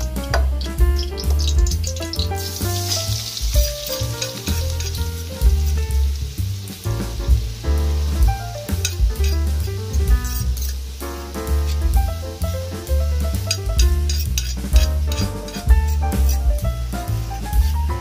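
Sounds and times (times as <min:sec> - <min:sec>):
music with heavy bass: 0:00.0 - 0:18.0
paste sizzling in hot oil: 0:00.0 - 0:18.0.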